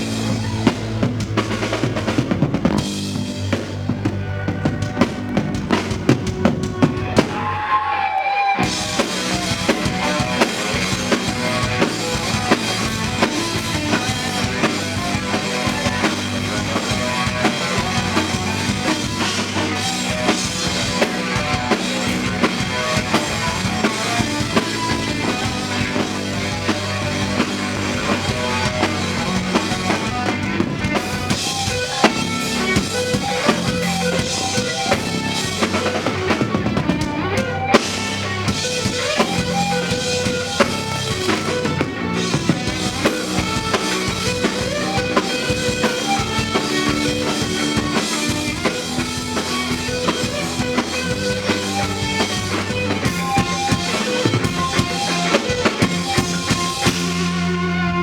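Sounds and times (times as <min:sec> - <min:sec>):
drum kit beat: 0:00.0 - 0:07.8, 0:08.6 - 0:58.0
live band music: 0:00.0 - 0:58.0.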